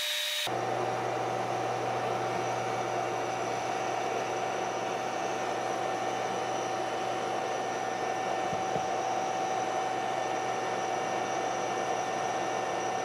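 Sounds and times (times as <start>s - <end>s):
steady electronic whine: 0.0s - 13.0s
cooling fan rushing noise: 0.5s - 13.0s.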